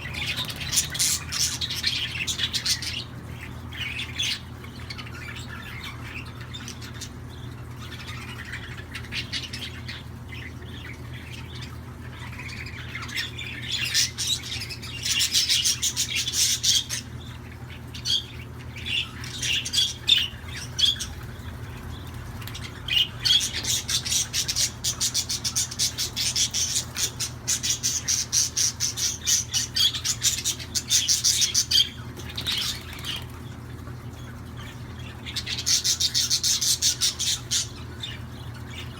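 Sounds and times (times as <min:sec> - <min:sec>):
budgerigars chirping and chattering: 0:00.0 - 0:38.9
steady low hum: 0:00.0 - 0:38.9.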